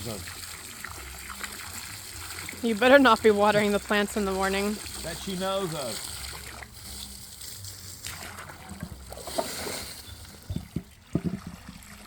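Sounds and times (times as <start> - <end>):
water trickling into bird bath: 0.0 - 12.0.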